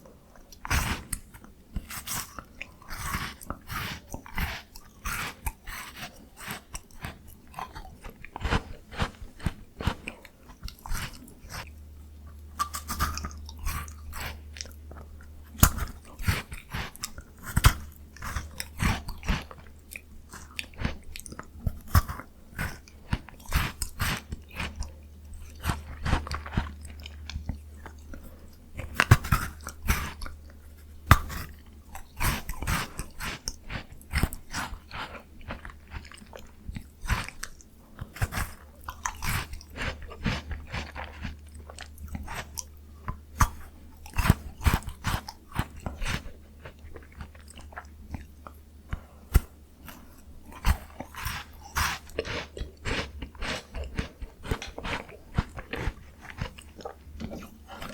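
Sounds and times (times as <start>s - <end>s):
crunchy chewing of ice cream: 0.0s - 57.9s
wet mouth sounds: 0.0s - 57.9s.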